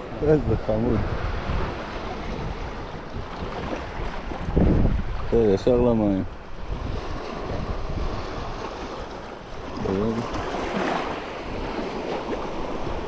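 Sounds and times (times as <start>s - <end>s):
small waves breaking over rocks: 0.0s - 13.0s.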